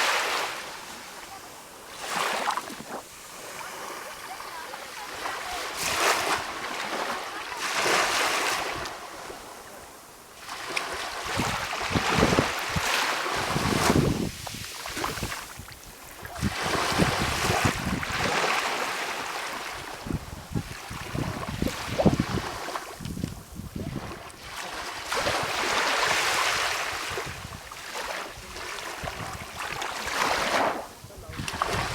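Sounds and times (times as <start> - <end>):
small waves breaking: 0.0 - 31.9.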